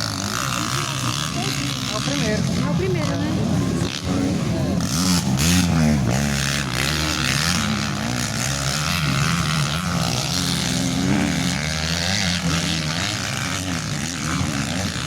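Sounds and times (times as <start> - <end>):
motocross bike engines: 0.0 - 15.0.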